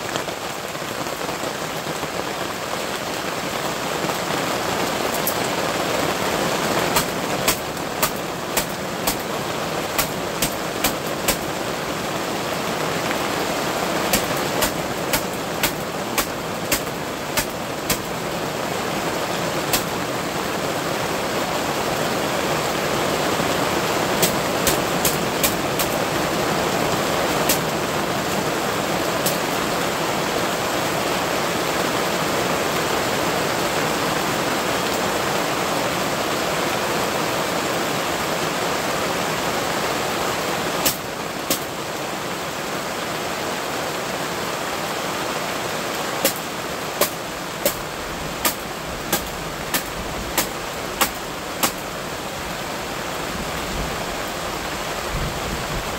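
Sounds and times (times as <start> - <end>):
steady rain on fabric canopy: 0.0 - 55.9.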